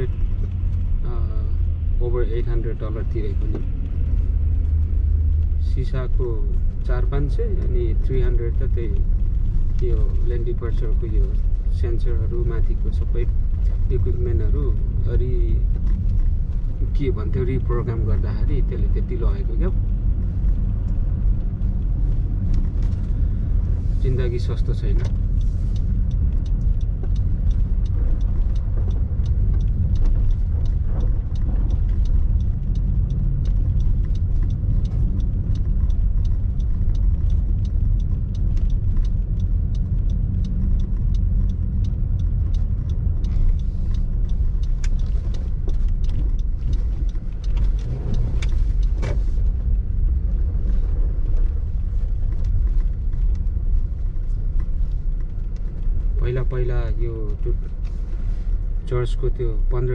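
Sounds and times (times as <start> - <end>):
car cabin road rumble: 0.0 - 59.9
faint ticks: 2.2 - 59.9.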